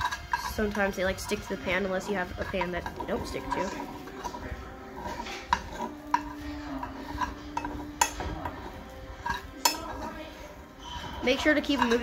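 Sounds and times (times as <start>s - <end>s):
spoon scraping frying pan: 0.0s - 12.0s.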